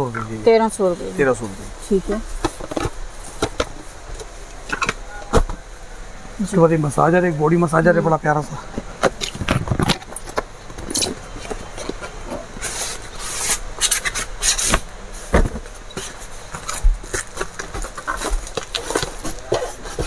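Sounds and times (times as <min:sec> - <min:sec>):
rustling of handled items: 0:00.0 - 0:20.0.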